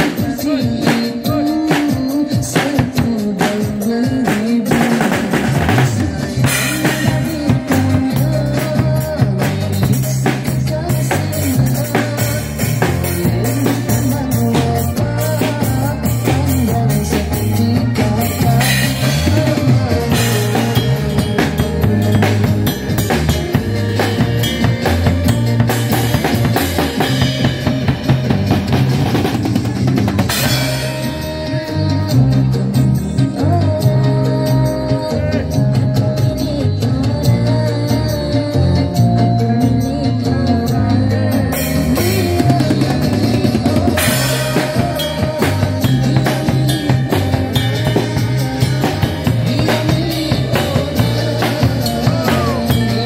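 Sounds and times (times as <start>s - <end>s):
bass line: 0.0s - 53.0s
drum kit beat: 0.0s - 53.0s.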